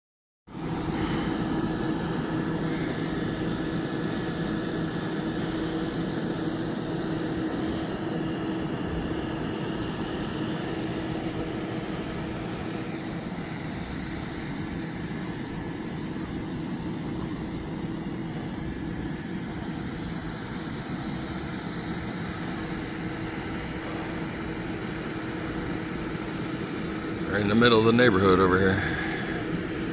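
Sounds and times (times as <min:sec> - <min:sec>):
air conditioner fan rush: 0:00.5 - 0:29.9
constant low hum: 0:00.5 - 0:29.9.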